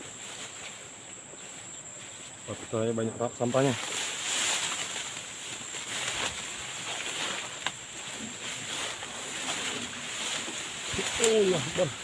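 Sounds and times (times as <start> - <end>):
footsteps rustling through grass: 0.0 - 12.0
high insect drone: 0.0 - 12.0.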